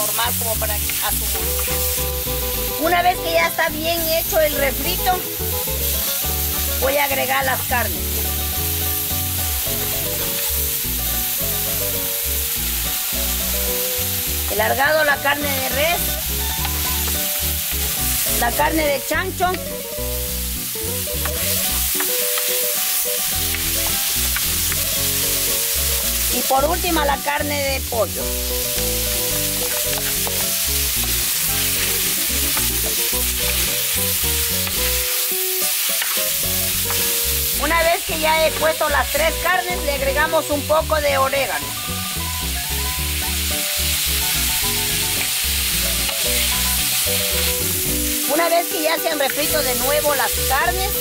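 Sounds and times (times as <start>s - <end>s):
background music with bass: 0.0s - 35.6s, 36.2s - 51.0s
vegetables sizzling in a pan: 0.0s - 51.0s.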